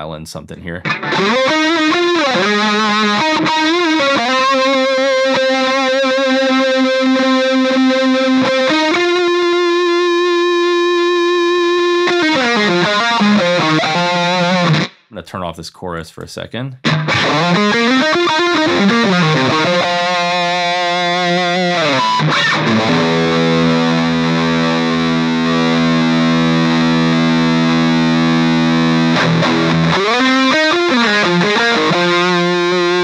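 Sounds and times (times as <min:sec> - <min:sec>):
distorted electric guitar lead: 0:00.8 - 0:15.1, 0:16.8 - 0:33.0.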